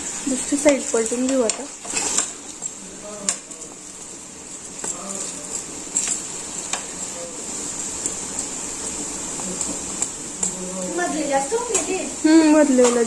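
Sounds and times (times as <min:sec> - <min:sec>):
dough frying in oil: 0:00.0 - 0:13.0.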